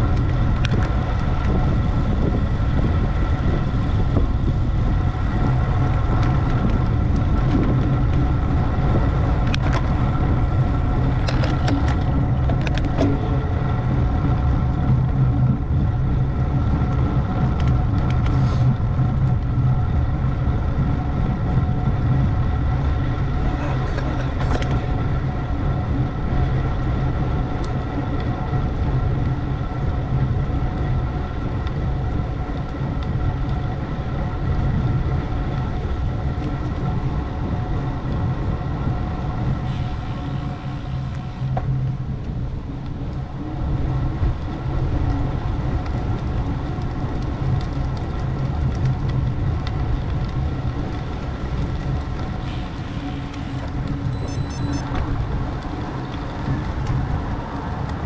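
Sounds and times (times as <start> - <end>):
road and wind rumble: 0.0 - 58.0.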